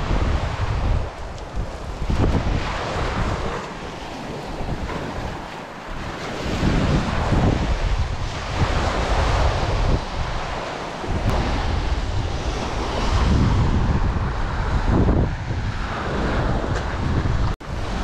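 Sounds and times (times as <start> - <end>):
surf washing up beach: 0.0 - 18.0
wind buffeting microphone: 0.0 - 18.0.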